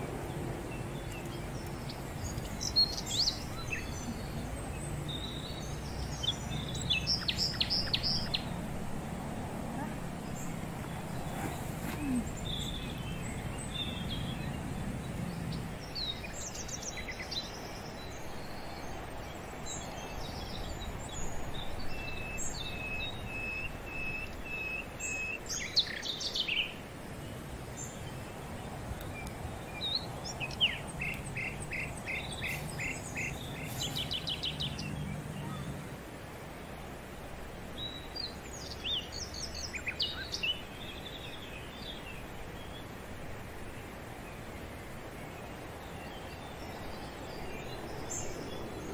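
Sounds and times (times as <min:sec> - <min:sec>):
birds chirping: 0:00.0 - 0:48.9
outdoor hiss: 0:00.0 - 0:48.9.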